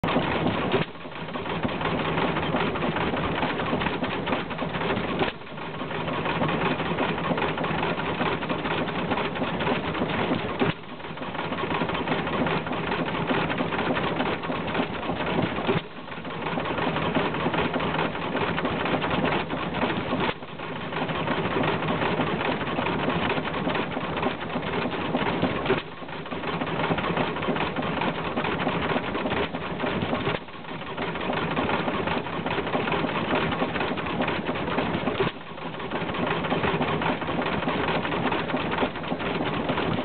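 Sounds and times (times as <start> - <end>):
stationary engine clattering: 0.0 - 40.0.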